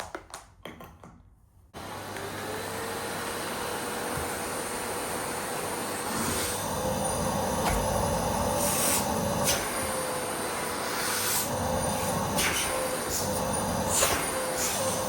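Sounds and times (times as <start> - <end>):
vacuum cleaner motor whine: 1.8 - 15.0.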